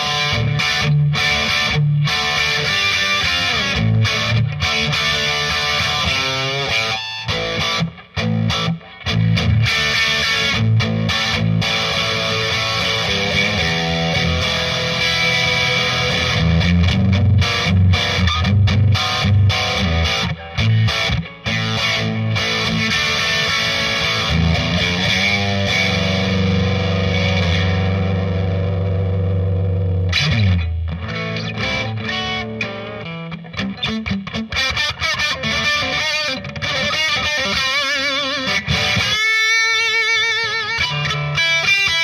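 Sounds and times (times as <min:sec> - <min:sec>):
distorted electric guitar: 0:00.0 - 0:42.0.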